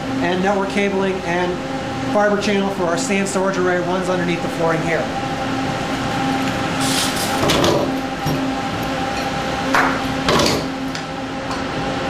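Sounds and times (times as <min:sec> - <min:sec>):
servers and air conditioning hum: 0:00.0 - 0:12.0.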